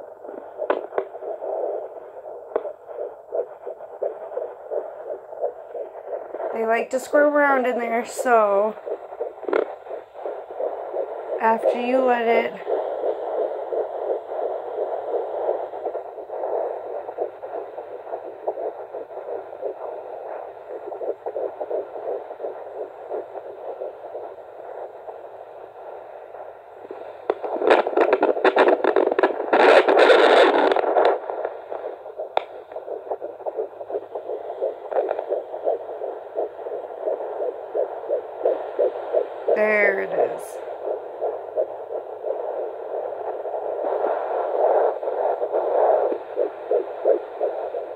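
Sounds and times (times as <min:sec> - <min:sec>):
fetal doppler heartbeat whooshing: 0:00.0 - 0:47.9
slower heartbeat pulse: 0:00.0 - 0:47.9.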